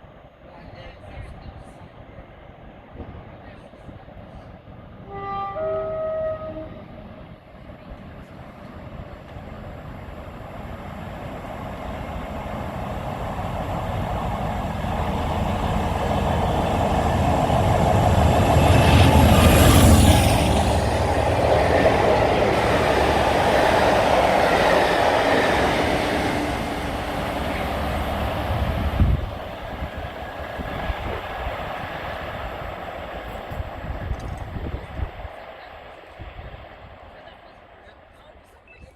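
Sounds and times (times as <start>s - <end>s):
diesel locomotive engine passing: 0.5s - 38.6s.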